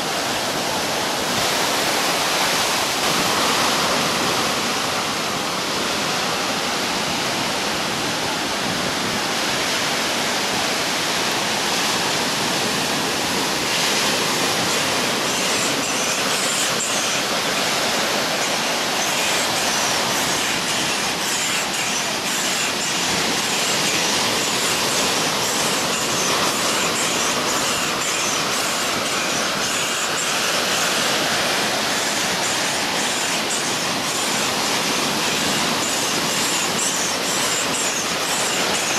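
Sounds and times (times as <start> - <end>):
small waves breaking on sand: 0.0 - 38.9.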